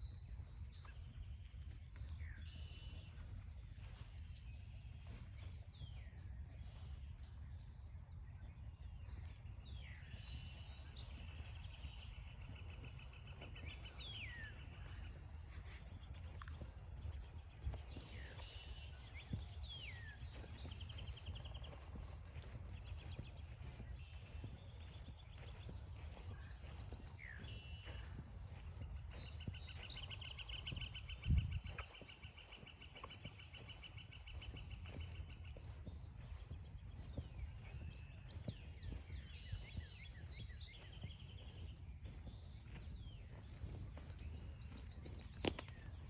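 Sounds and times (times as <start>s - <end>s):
songbirds chirping and trilling: 0.0s - 46.0s
footsteps on forest trail: 0.2s - 7.3s, 9.2s - 46.0s.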